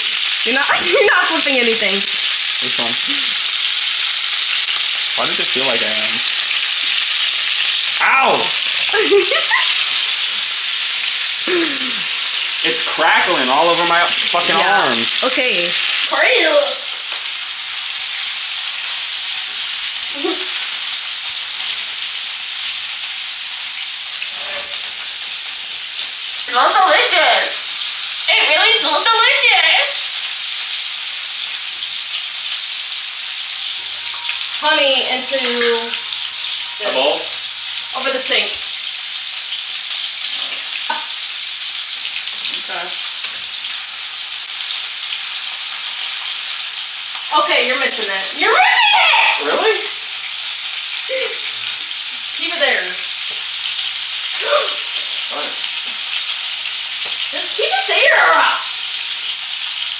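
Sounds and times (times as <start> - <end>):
chicken frying in oil: 0.0 - 59.9.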